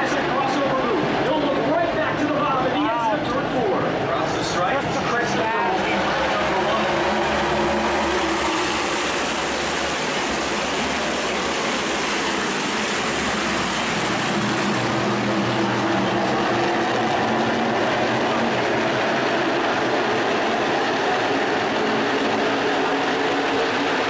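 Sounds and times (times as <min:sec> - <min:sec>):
race car engines roaring: 0:00.0 - 0:24.0.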